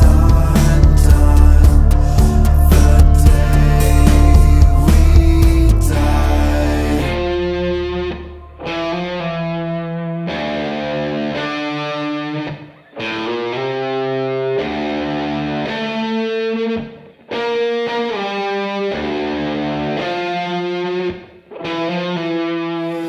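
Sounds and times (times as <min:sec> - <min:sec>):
rock music with distorted guitar: 0:00.0 - 0:23.0.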